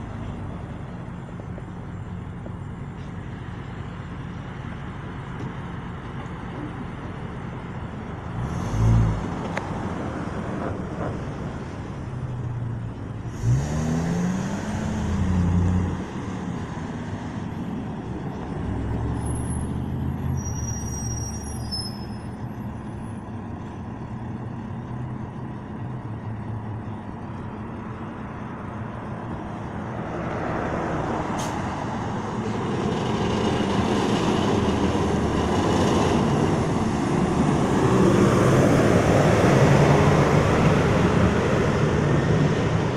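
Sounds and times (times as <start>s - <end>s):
city bus driving past: 0.0s - 42.9s
shuttle bus engine pulling away: 0.0s - 42.9s.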